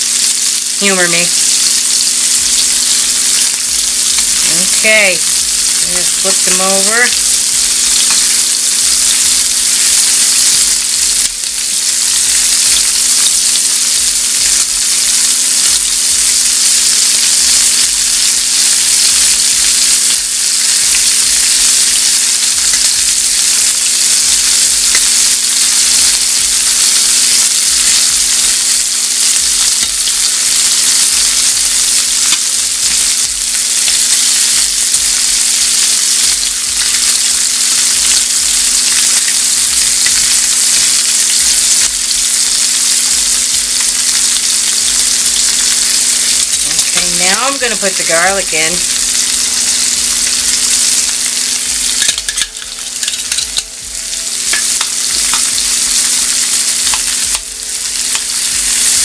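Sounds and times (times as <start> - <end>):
shrimp sizzling in butter: 0.0 - 59.0.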